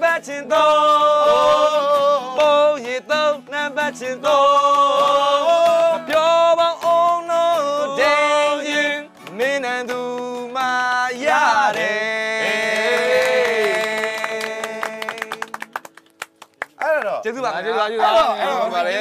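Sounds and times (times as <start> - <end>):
man singing loudly: 0.0 - 15.4
acoustic guitar strumming: 0.0 - 19.0.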